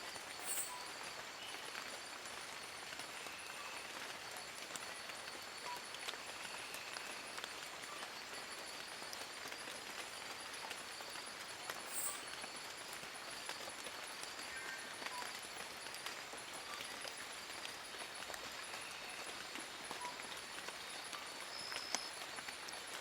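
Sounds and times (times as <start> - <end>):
rain on leaves: 0.0 - 23.0.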